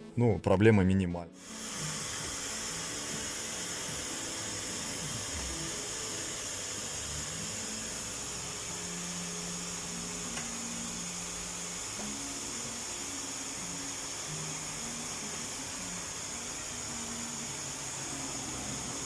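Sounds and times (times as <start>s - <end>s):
steady hiss: 1.4s - 19.0s.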